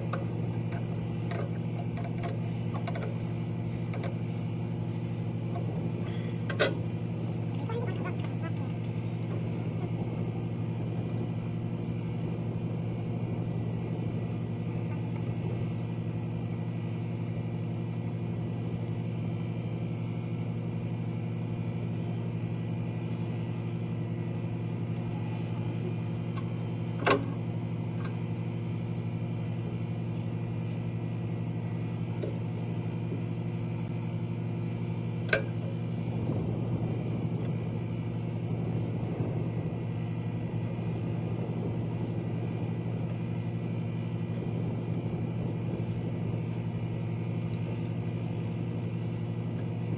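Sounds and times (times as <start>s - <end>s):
engine droning: 0.0s - 49.9s.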